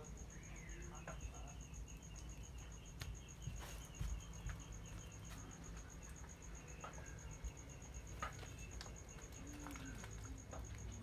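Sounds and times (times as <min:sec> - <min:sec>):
insect chirping: 0:00.0 - 0:11.0
wood fire crackling: 0:00.0 - 0:11.0.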